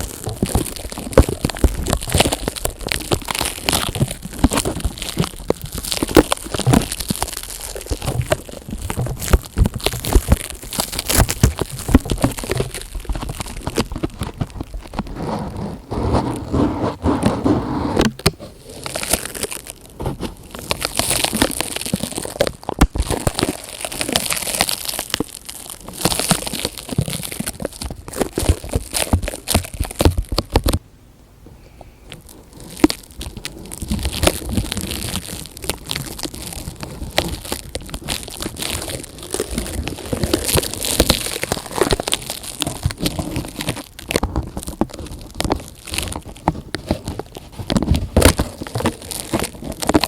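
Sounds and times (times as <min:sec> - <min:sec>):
plastic crinkling: 0:00.0 - 0:30.8, 0:31.8 - 0:50.0.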